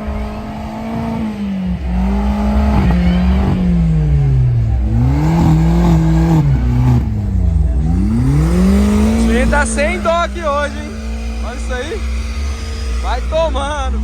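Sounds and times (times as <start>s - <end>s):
car engines revving hard: 0.0s - 14.0s
deep steady rumble: 0.0s - 14.0s.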